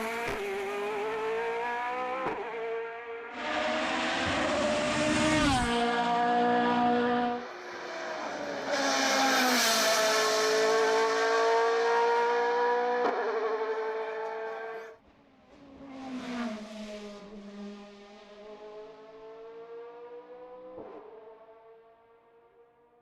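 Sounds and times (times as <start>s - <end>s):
race car engine at full throttle: 0.0s - 22.9s.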